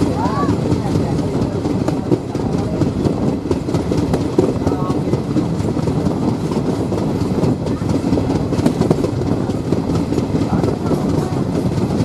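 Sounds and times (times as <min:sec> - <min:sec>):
train rumble: 0:00.0 - 0:12.0
wheels clacking over rail joints: 0:00.0 - 0:12.0.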